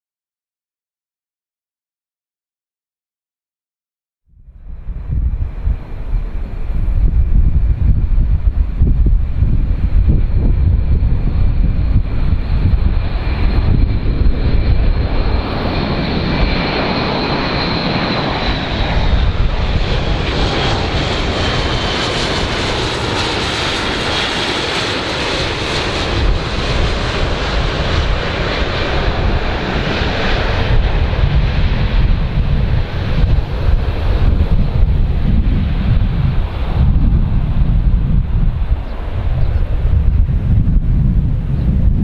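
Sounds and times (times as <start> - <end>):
airplane engine rumble: 4.3 - 42.0
high engine whine: 4.4 - 42.0.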